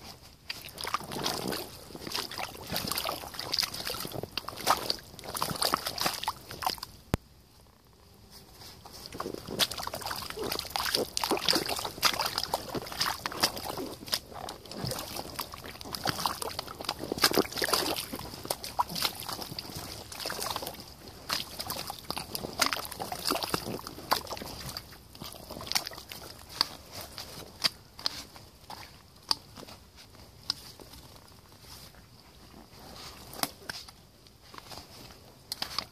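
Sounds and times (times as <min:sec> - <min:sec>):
waders squelching in mud: 0:00.0 - 0:07.1, 0:08.6 - 0:35.9.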